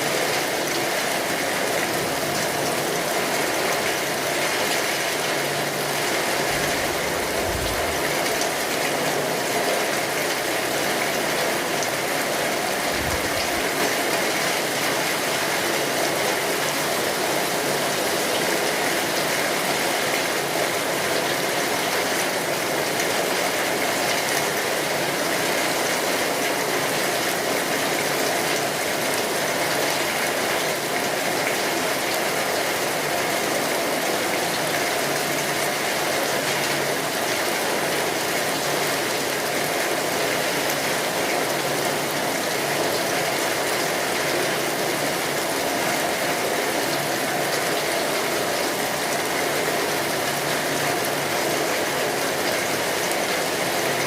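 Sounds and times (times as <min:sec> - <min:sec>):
rain drumming on a tin roof: 0:00.0 - 0:54.0.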